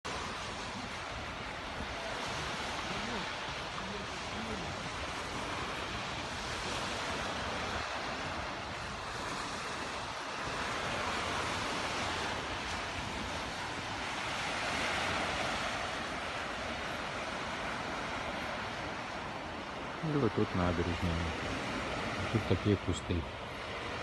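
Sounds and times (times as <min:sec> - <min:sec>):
sea surf washing onto shore: 0:00.1 - 0:24.0.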